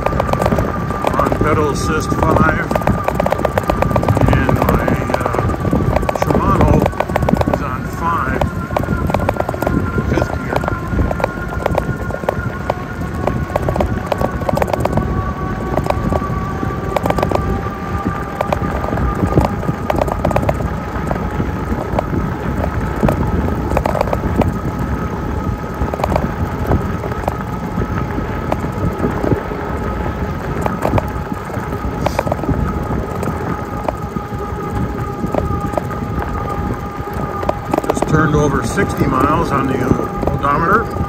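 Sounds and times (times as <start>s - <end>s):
electric bike motor whine: 0.0s - 41.0s
wind and tyre rumble: 0.0s - 41.0s.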